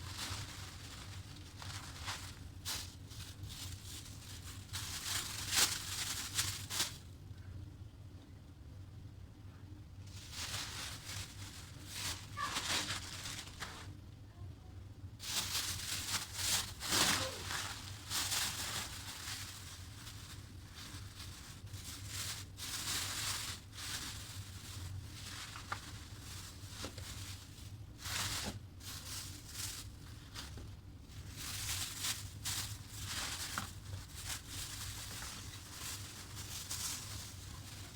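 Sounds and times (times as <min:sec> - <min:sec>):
plastic packaging rustling: 0:00.0 - 0:07.1, 0:10.1 - 0:14.0, 0:15.2 - 0:37.9.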